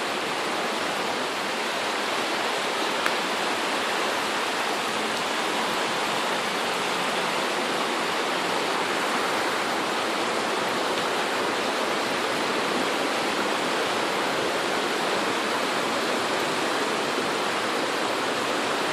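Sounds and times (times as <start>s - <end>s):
heavy rain and rushing floodwater: 0.0s - 18.9s.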